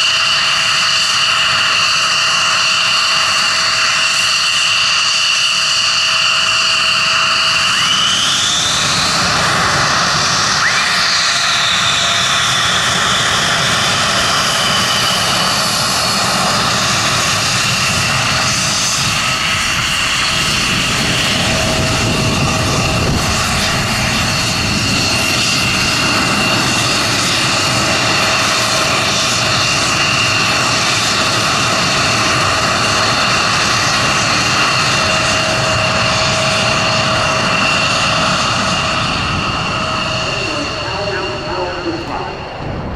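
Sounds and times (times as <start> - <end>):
fighter jet roaring: 0.0 - 42.9
high turbine whine: 0.0 - 42.9.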